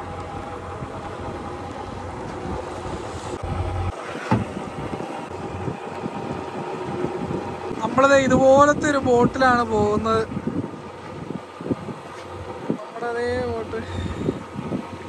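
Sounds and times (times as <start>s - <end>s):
motorboat motor: 0.0s - 15.0s
wind buffeting microphone: 0.0s - 15.0s.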